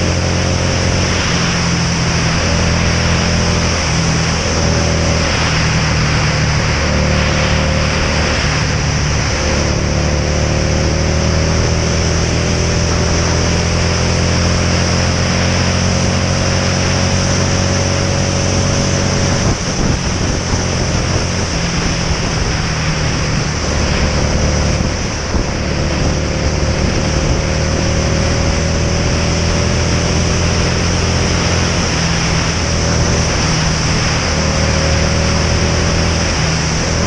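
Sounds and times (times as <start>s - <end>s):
motorcycle engine running: 0.0s - 37.0s
wind rush on camera: 0.0s - 37.0s.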